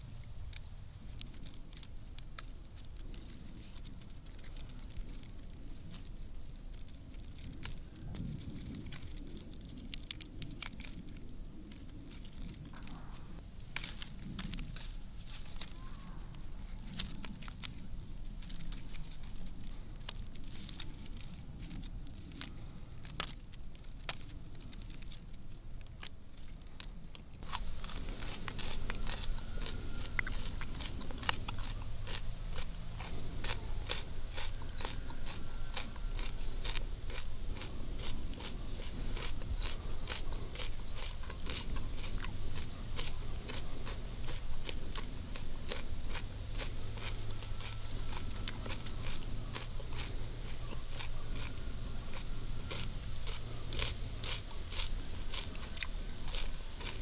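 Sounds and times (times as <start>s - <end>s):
crunchy chewing: 0.0s - 57.0s
root splitting crackles: 0.0s - 57.0s.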